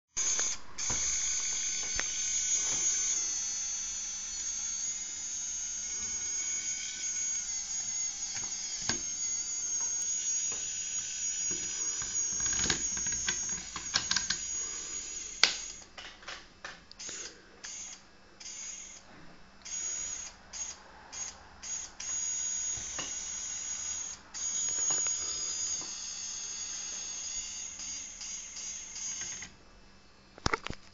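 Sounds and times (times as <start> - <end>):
small electric motor whining: 0.2 - 15.9, 17.0 - 29.6.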